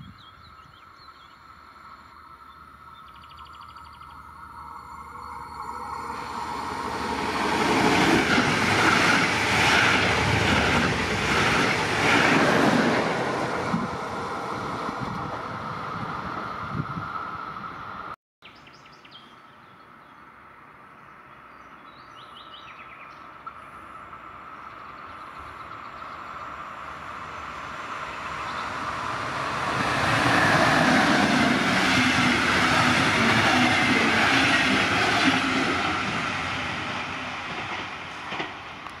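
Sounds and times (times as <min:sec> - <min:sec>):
train rail and wheel noise: 0:00.0 - 0:18.2, 0:22.4 - 0:39.0.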